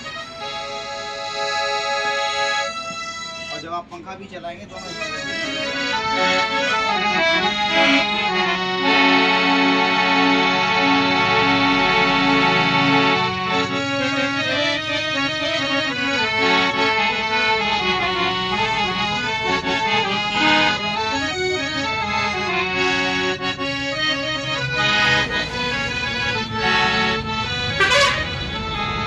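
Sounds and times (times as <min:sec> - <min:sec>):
harmonium melody: 0:00.0 - 0:29.0.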